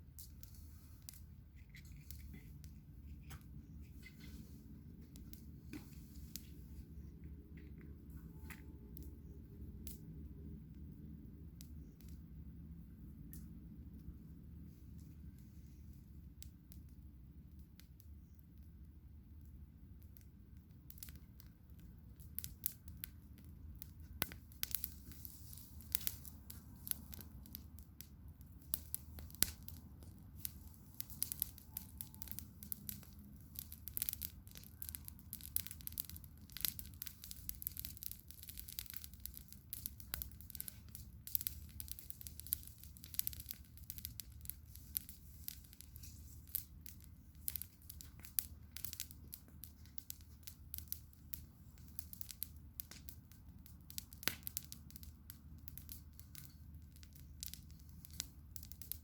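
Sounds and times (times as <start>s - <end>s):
low rumble of flames: 0.0s - 59.0s
wood crackling and popping: 0.0s - 59.0s.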